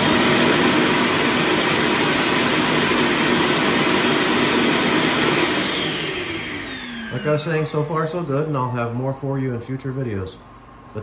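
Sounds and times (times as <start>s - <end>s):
vacuum roar with high whine: 0.0s - 11.0s.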